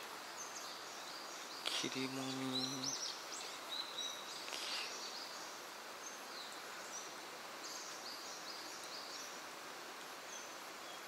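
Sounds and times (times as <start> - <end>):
faint outdoor hiss: 0.0 - 11.0
small birds chirping: 0.0 - 11.0.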